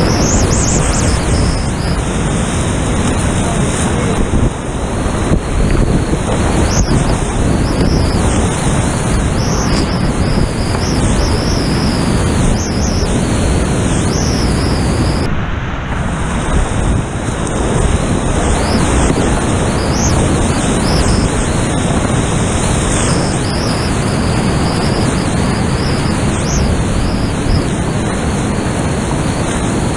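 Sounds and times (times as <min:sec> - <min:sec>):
whitewater rapids rushing: 0:00.0 - 0:29.9.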